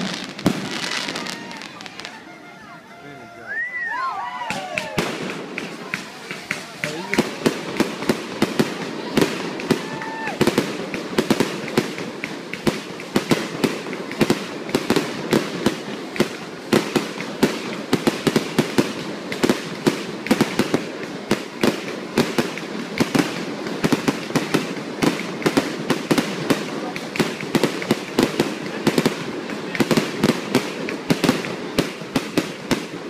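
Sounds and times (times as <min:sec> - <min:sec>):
fireworks bangs and crackles: 0:00.0 - 0:02.6, 0:03.5 - 0:33.0.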